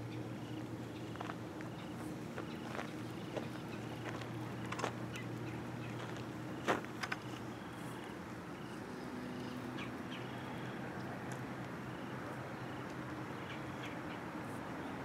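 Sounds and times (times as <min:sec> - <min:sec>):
open-air background at a pond: 0:00.0 - 0:15.0.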